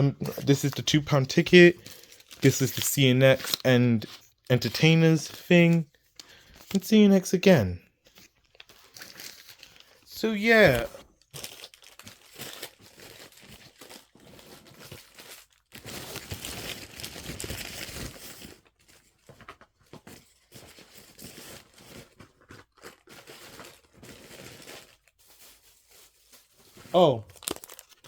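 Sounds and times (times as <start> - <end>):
paper crinkling and rustling: 0.0 - 6.8, 8.1 - 28.0.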